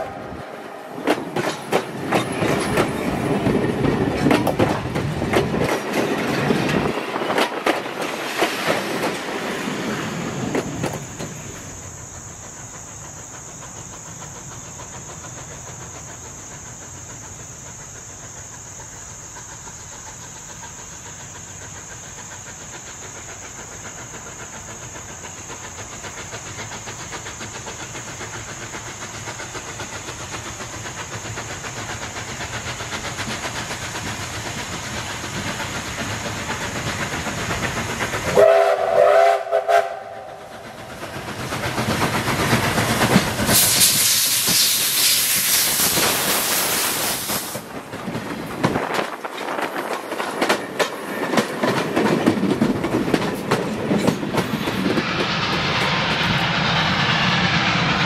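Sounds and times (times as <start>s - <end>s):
steam locomotive exhaust beats: 0.0s - 58.0s
train wheels clicking over rail joints: 0.9s - 58.0s.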